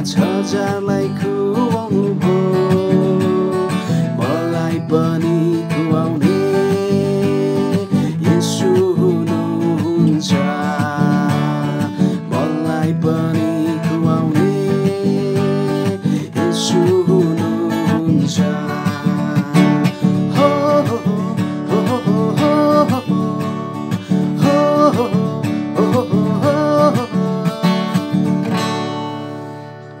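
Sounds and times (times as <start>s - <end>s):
man singing: 0.0s - 28.4s
acoustic guitar strumming chords: 0.0s - 30.0s.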